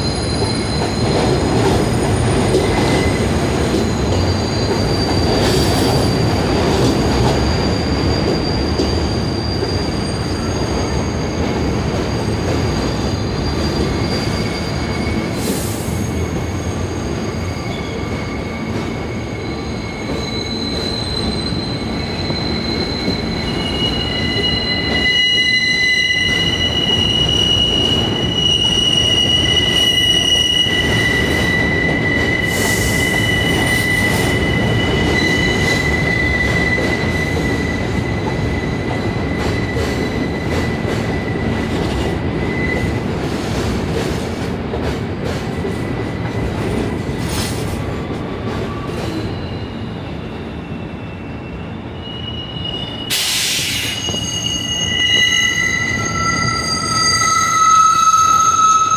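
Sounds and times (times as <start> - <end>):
rumble of train cars: 0.0 - 58.9
train wheels squealing: 0.0 - 58.9.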